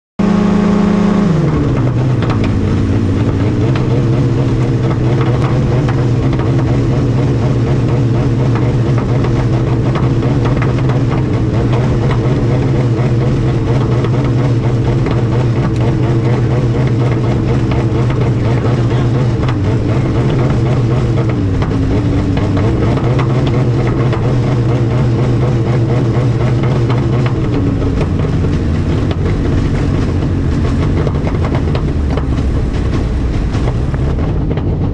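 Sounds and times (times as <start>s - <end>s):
light aircraft engine: 0.2s - 34.9s.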